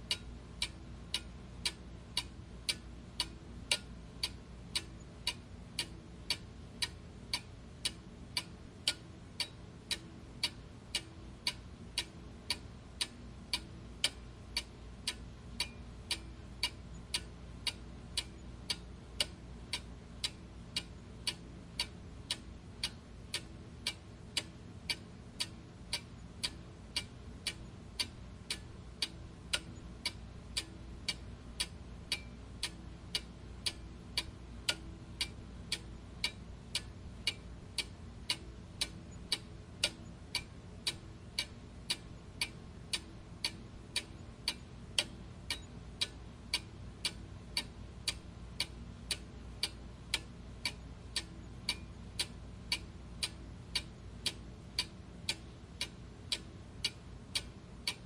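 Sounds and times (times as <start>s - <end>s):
faint low hum: 0.0s - 58.0s
clock ticking: 0.1s - 58.0s.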